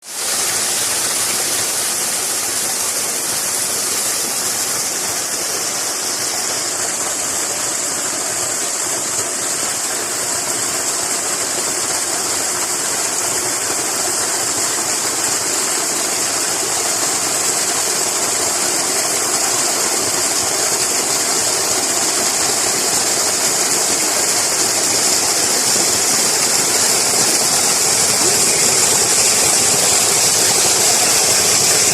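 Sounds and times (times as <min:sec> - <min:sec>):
water pouring from spring spout: 0:00.0 - 0:31.9.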